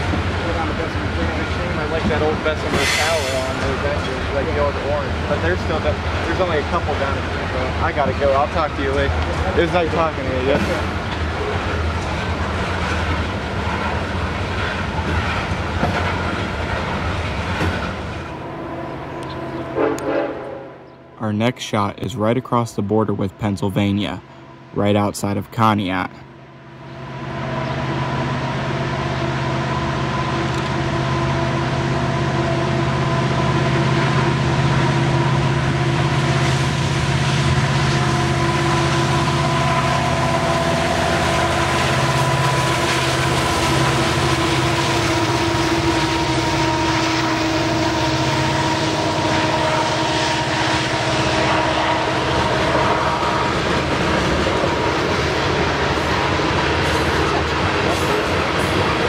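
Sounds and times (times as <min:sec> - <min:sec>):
diesel locomotives running: 0:00.0 - 0:59.0
train passing: 0:00.0 - 0:59.0.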